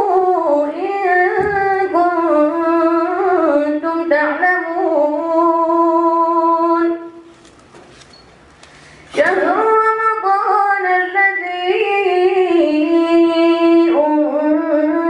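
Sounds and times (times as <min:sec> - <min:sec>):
boy chanting through microphone: 0:00.0 - 0:07.3, 0:09.2 - 0:15.0.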